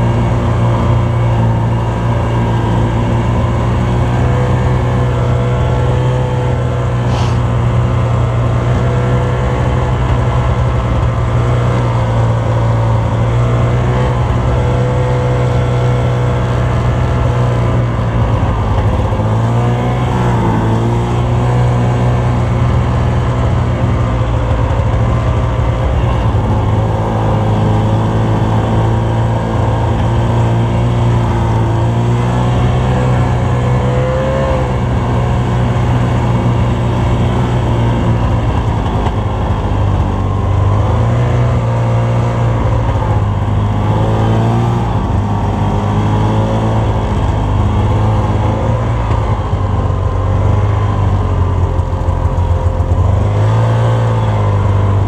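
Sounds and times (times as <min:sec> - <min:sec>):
snowmobile engine under throttle: 0:00.0 - 0:55.0.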